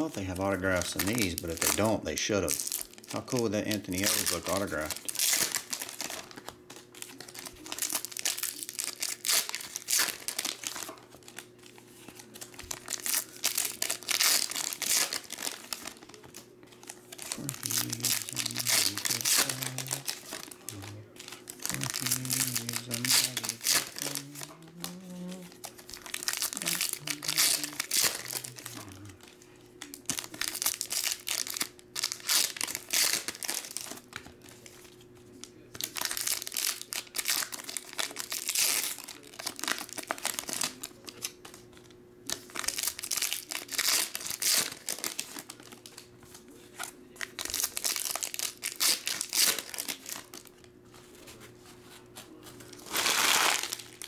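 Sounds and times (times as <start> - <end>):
plastic wrappers tearing and crinkling: 0.0 - 51.4, 52.4 - 54.0.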